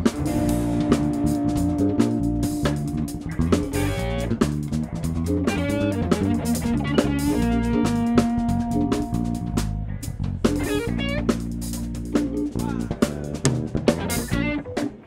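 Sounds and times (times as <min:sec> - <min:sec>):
drum kit: 0:00.0 - 0:15.0
electric bass: 0:00.0 - 0:15.0
electric guitar: 0:00.0 - 0:15.0
keyboard: 0:00.0 - 0:15.0.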